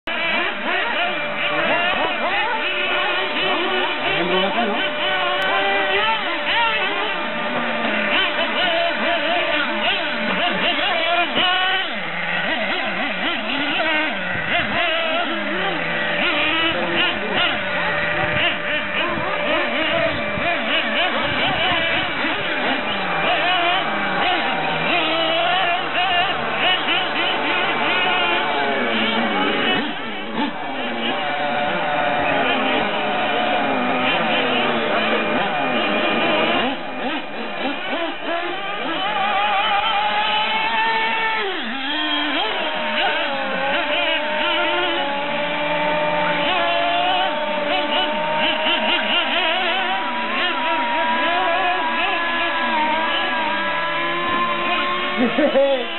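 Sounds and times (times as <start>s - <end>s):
rc car motors revving: 0.0s - 55.9s.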